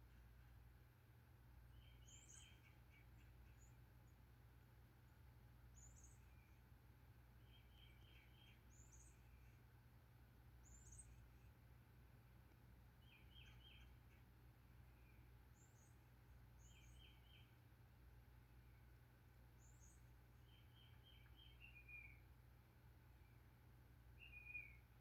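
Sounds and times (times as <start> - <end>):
low background hum: 0.0 - 25.0
songbirds chirping: 0.0 - 25.0.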